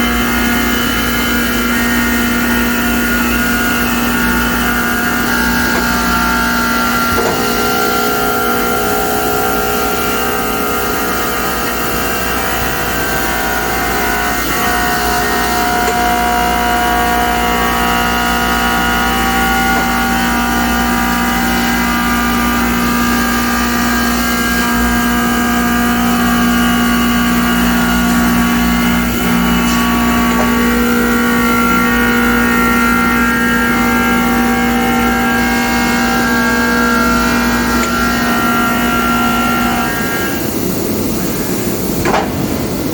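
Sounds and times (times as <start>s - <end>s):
grinding machine motors whining: 0.0s - 42.9s
machine hiss: 0.1s - 42.9s.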